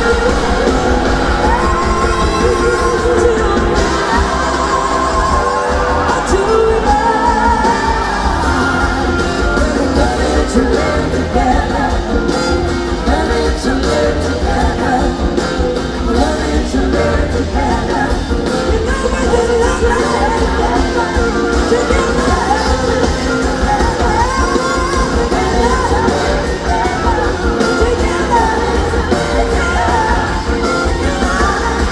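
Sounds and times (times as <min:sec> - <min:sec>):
live rock band playing: 0:00.0 - 0:31.9
woman singing: 0:00.0 - 0:31.9.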